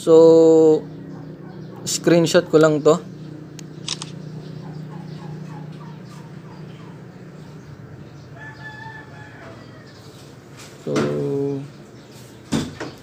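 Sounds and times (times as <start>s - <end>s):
bird calling: 0.3s - 13.0s.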